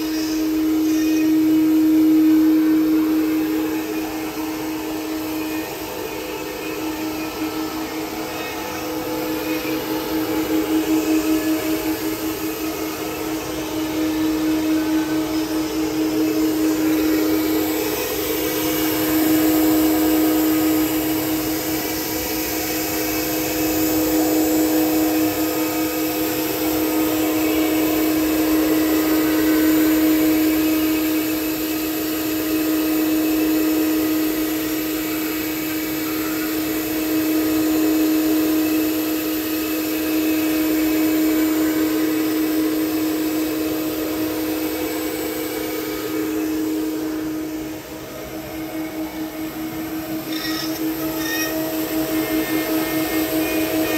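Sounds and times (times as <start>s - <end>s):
router spindle cutting wood: 0.0s - 53.9s.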